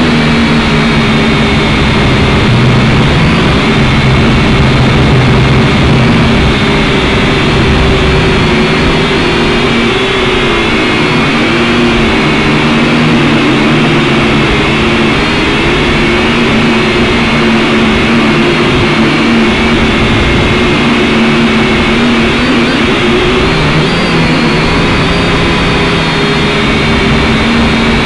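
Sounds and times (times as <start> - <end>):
quadcopter motors whirring: 0.0 - 28.0.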